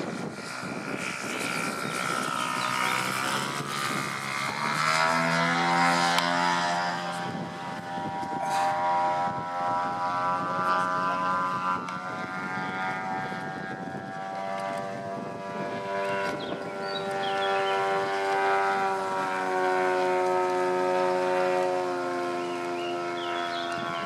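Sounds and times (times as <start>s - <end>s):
model plane engine droning: 0.0s - 24.0s.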